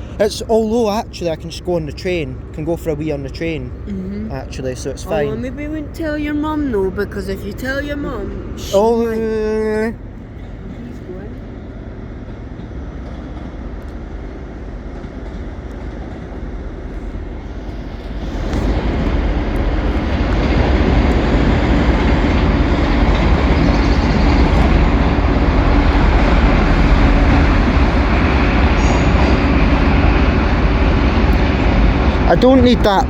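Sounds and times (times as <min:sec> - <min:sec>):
train running: 0:00.0 - 0:33.0.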